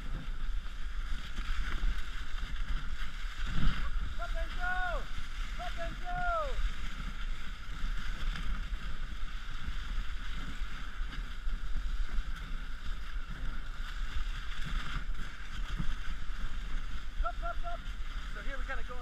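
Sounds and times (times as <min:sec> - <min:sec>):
low rumble of wind: 0:00.0 - 0:19.0
sled jolting on microphone: 0:00.0 - 0:19.0
sled runners hissing over snow: 0:00.0 - 0:19.0.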